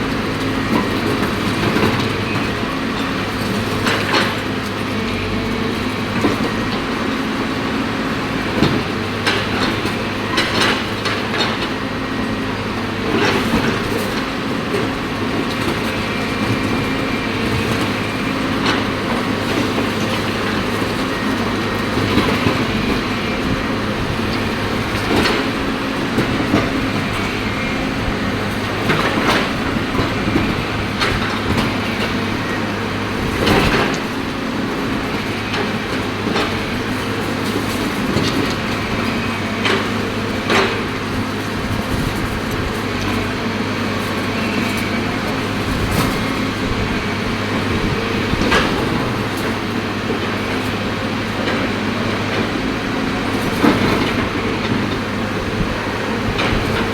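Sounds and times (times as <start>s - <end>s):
diesel engine under load: 0.0s - 56.9s.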